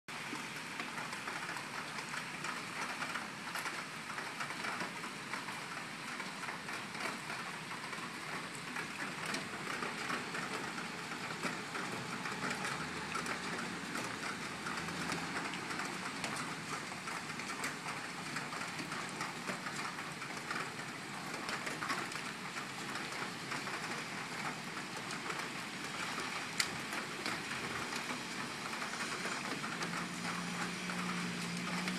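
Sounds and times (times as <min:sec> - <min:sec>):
rain falling steadily: 0:00.1 - 0:31.9
raindrops ticking on surfaces: 0:00.1 - 0:31.9.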